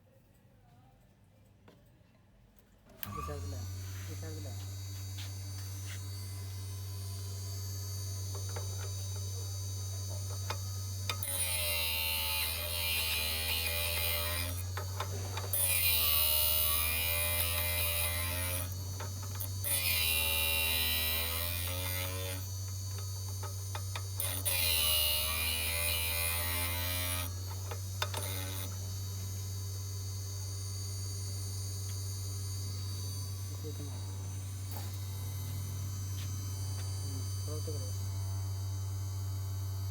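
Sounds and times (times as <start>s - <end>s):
grinder motor humming: 3.0s - 39.9s.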